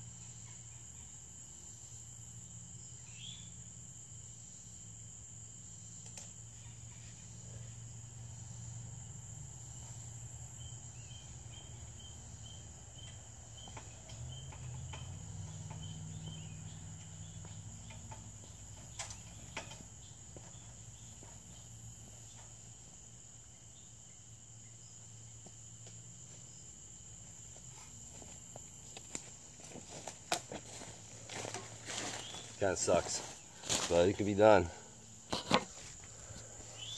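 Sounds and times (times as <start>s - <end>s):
crickets and insects chirping: 0.0s - 36.9s
repeated insect chirps: 0.0s - 36.9s.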